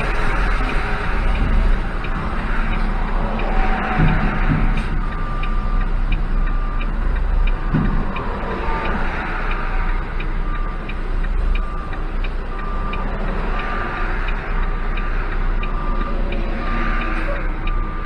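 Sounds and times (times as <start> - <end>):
diesel engine idling: 0.0 - 18.0
steady ticking: 0.0 - 18.0.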